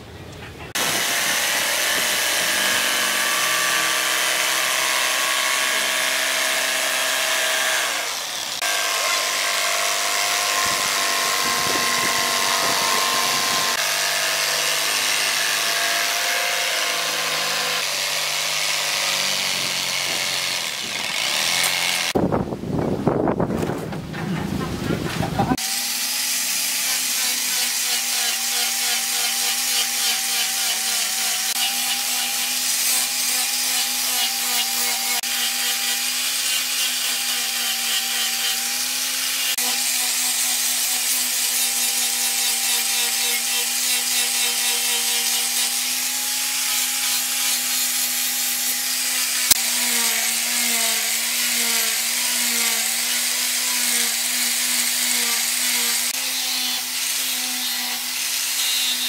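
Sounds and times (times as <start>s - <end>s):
angle grinder whining: 0.8s - 22.2s, 25.5s - 59.0s.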